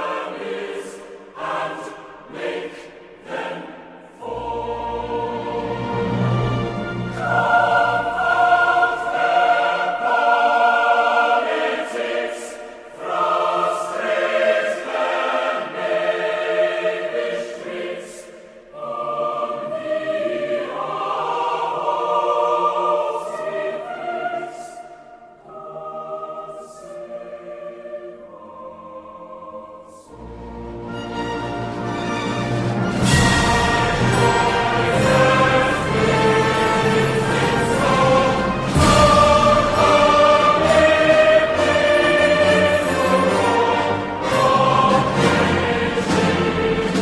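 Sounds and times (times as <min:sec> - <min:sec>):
choir singing long notes: 0:00.0 - 0:47.0.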